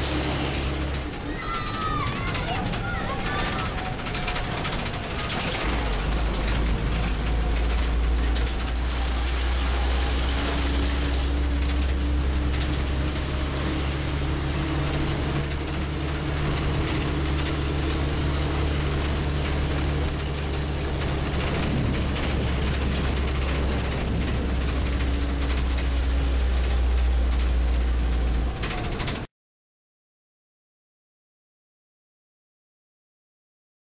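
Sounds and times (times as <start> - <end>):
low engine drone: 0.0 - 29.3
rattles inside vehicle: 0.0 - 29.3.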